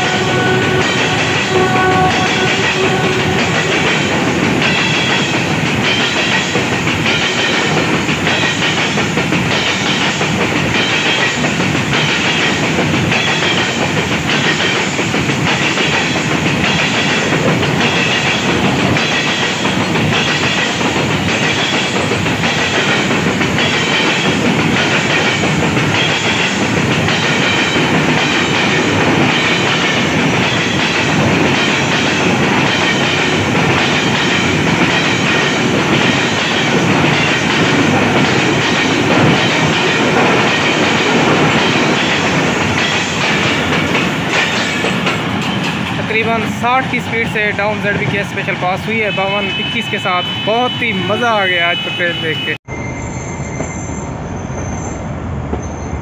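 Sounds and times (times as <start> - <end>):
clickety-clack over rail joints: 0.0 - 52.5
train wheels rumbling on rail: 0.0 - 56.0.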